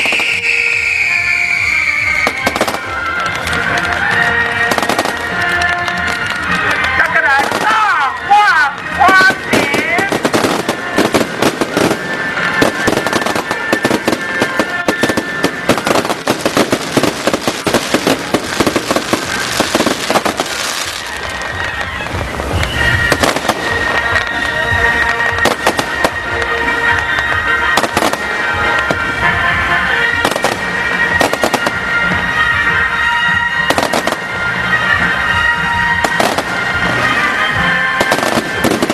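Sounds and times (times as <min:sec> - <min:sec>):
fireworks crackling and banging: 0:00.0 - 0:38.9
music playing: 0:00.0 - 0:38.9.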